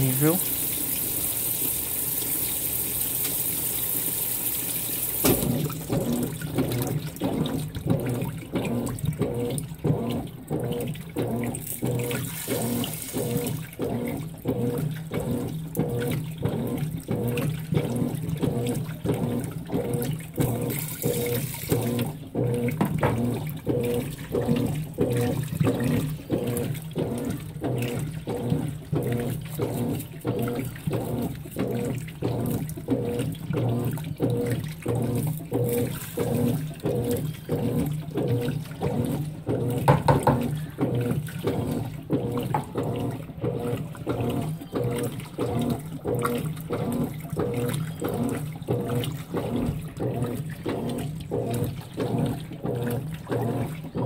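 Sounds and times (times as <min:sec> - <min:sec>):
washing machine sloshing: 0:00.0 - 0:54.0
low motor hum: 0:05.2 - 0:54.0.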